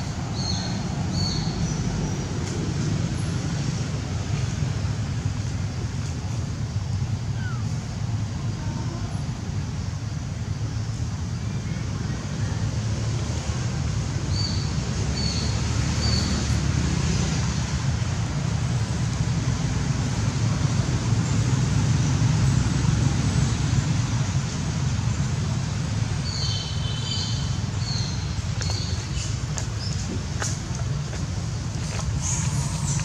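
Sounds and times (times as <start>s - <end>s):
low outdoor rumble: 0.0s - 15.8s, 16.4s - 33.0s.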